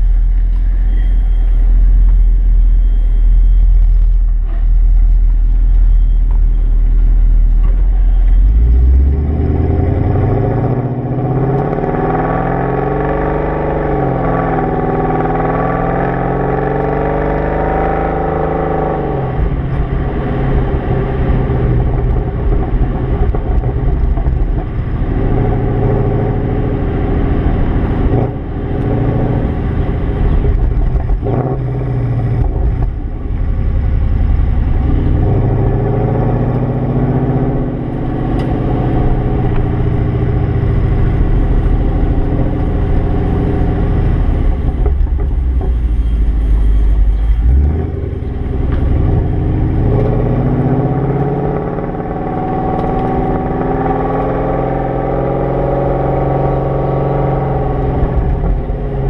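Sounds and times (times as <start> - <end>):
car engine and exhaust accelerating: 0.0 - 59.0.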